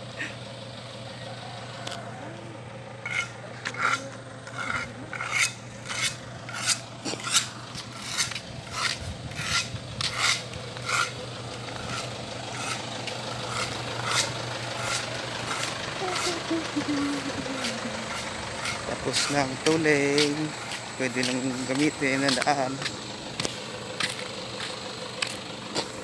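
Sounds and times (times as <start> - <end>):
steady low hum: 1.6 - 26.0
footsteps on gritty concrete: 3.1 - 16.4, 17.0 - 26.0.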